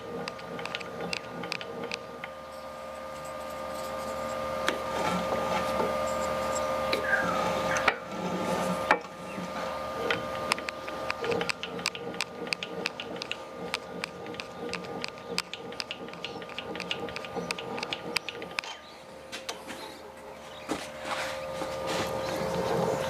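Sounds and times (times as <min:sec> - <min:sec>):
rapid mechanical clicking: 0:00.0 - 0:18.9
faint steady hum: 0:00.0 - 0:23.0
steady whine: 0:00.0 - 0:23.0.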